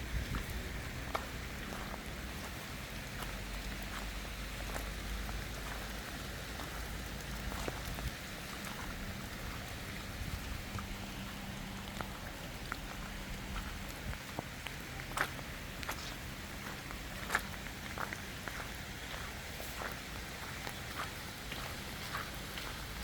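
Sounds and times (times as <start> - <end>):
steady rain falling: 0.0 - 23.0
drops dripping on a surface: 0.3 - 23.0.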